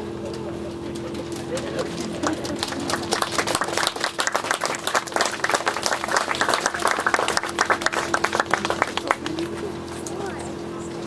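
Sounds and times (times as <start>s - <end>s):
crowd applauding: 1.1s - 10.1s.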